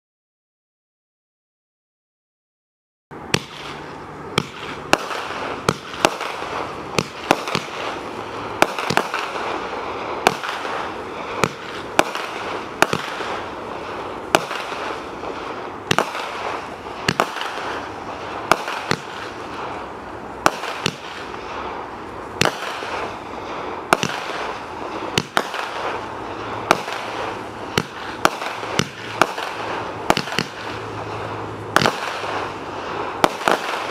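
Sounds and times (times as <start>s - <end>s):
firework reports: 3.1s - 33.9s
firework rushing hiss: 3.1s - 33.9s.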